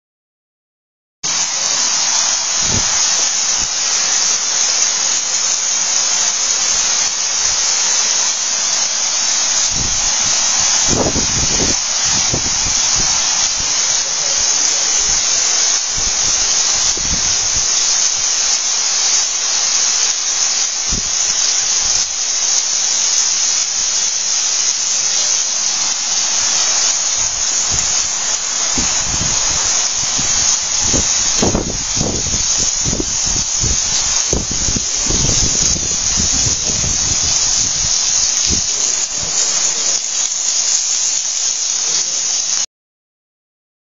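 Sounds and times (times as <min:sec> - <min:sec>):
heavy rain on car roofs: 0:01.3 - 0:42.6.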